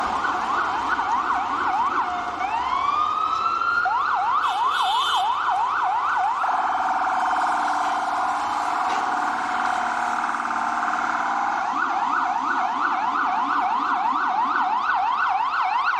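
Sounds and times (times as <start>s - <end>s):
city street noise: 0.0s - 15.9s
emergency vehicle siren: 0.0s - 15.9s.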